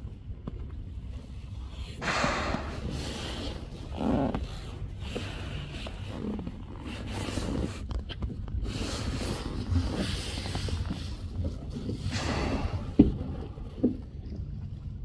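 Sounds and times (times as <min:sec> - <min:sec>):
water noise from boat: 0:00.8 - 0:15.0.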